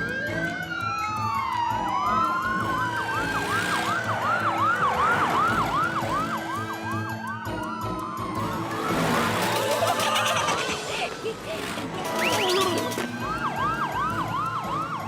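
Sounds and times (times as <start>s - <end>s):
cartoon siren warbling: 0.0s - 10.9s, 12.0s - 15.0s
background music: 0.0s - 15.0s.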